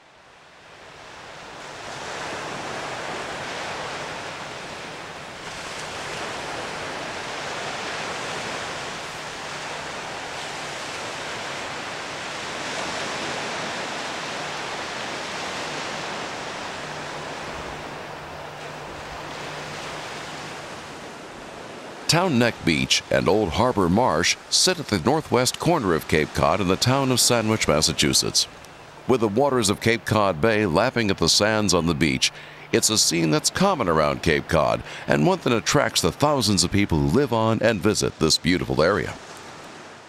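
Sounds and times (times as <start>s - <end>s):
waves washing onto beach: 0.0s - 40.0s.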